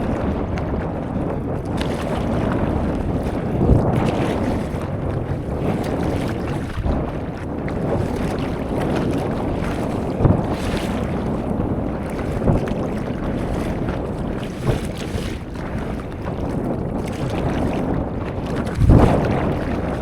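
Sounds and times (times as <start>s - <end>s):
water splashing and sloshing: 0.0s - 20.0s
wind buffeting microphone: 0.0s - 20.0s.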